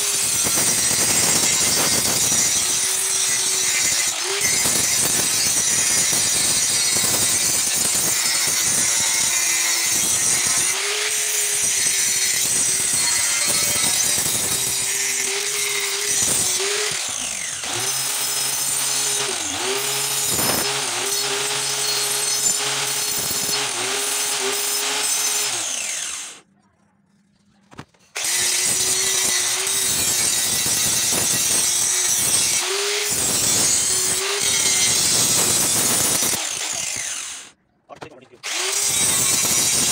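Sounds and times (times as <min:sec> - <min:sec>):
angle grinder grinding metal: 0:00.0 - 0:26.4, 0:28.1 - 0:39.9.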